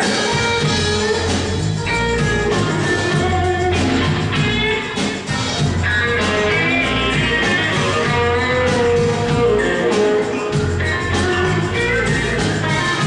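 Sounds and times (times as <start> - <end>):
electric guitar: 0.0 - 13.0
live band playing: 0.0 - 13.0.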